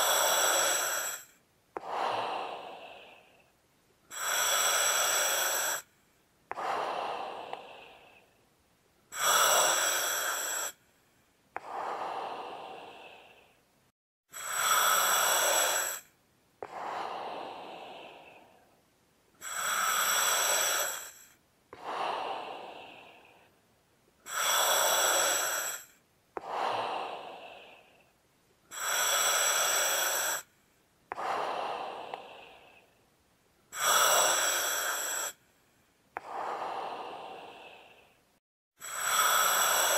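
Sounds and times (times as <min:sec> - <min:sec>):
heavy human breathing: 0:00.0 - 0:08.5, 0:09.1 - 0:18.8, 0:19.4 - 0:23.6, 0:24.2 - 0:33.1, 0:33.7 - 0:39.9.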